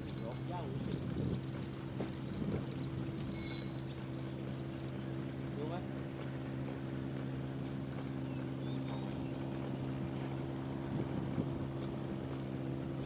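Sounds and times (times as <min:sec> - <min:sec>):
constant low hum: 0:00.0 - 0:13.0
high-pitched insect trill: 0:00.0 - 0:13.0.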